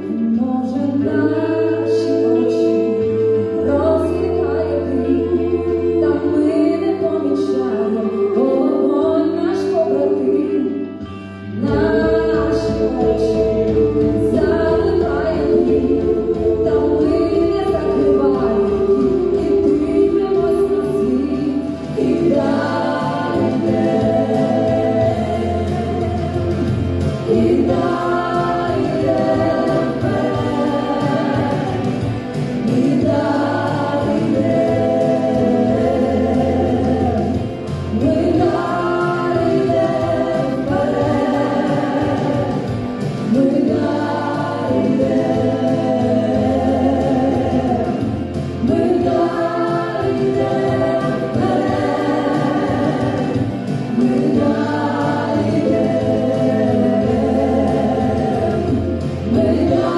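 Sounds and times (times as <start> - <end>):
choir singing: 0.0 - 11.0, 11.6 - 59.9
low accompaniment: 0.0 - 59.9.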